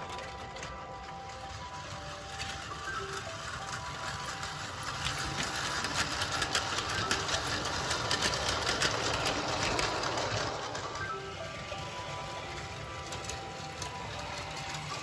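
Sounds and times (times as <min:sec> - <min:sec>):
toy train motor whir: 0:00.0 - 0:15.0
wheels clicking over track joints: 0:00.0 - 0:15.0.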